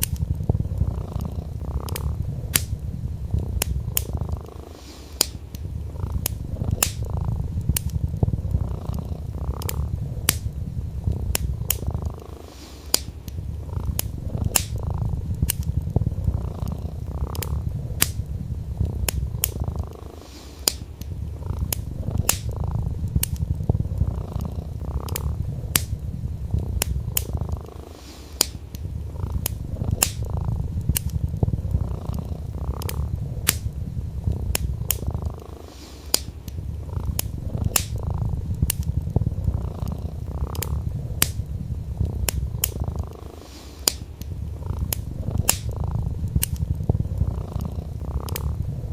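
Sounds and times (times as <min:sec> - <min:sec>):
burning wood crackling and popping: 0:00.0 - 0:48.9
cat purring: 0:00.0 - 0:48.9.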